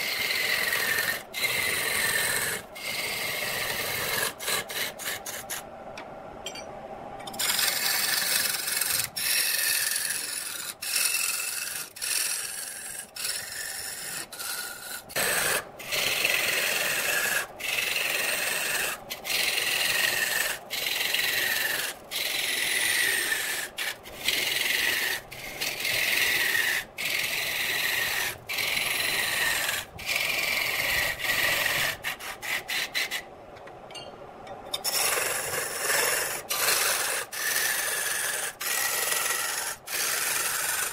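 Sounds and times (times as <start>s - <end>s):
lathe tool cutting wood: 0.0s - 5.4s, 7.4s - 33.1s, 34.8s - 40.9s.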